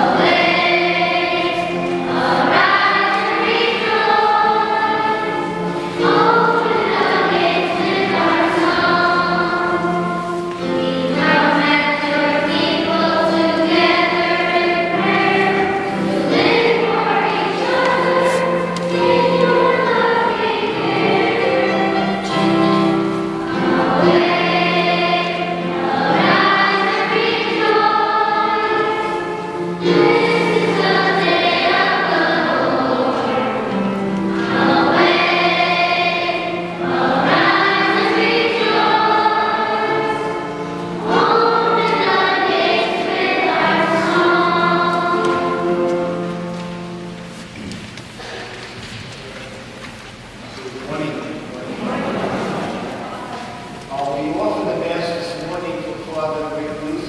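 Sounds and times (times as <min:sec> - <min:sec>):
choir singing a hymn: 0:00.0 - 0:49.2, 0:50.4 - 0:57.0.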